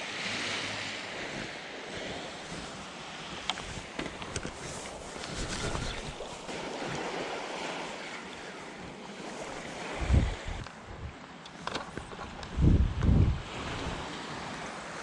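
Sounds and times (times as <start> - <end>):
waves washing on a beach: 0.0 - 15.0
wind on the microphone: 0.2 - 11.2, 11.8 - 14.6.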